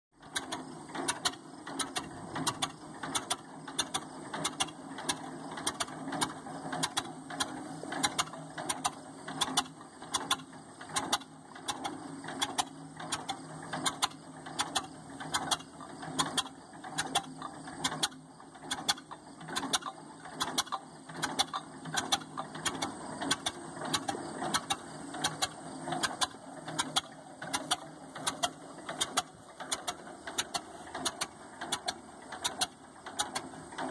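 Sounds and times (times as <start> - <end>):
tractor engine idling: 0.2 - 33.9.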